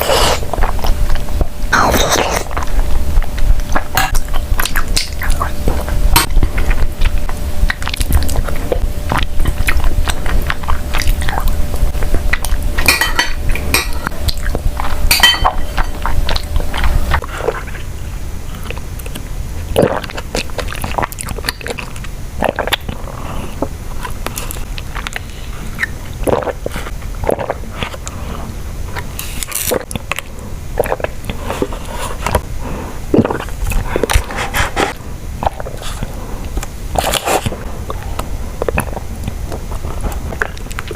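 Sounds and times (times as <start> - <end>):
person biting and chewing food: 0.0 - 12.7, 18.5 - 28.2, 28.9 - 40.9
steady low hum: 0.0 - 40.9.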